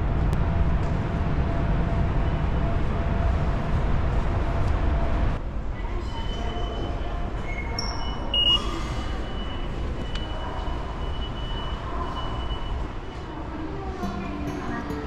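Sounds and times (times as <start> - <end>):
station concourse rumble: 0.0 - 15.0.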